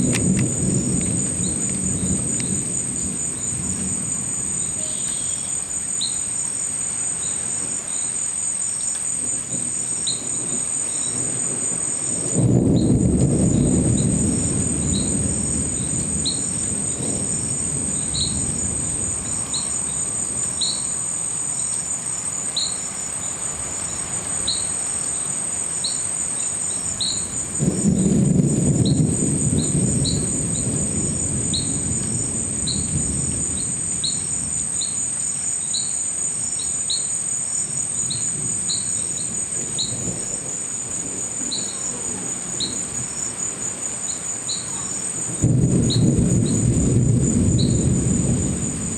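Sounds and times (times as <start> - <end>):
thunder rumbling: 0.0 - 24.8, 26.6 - 36.6, 37.2 - 48.9
crickets trilling: 0.0 - 48.9.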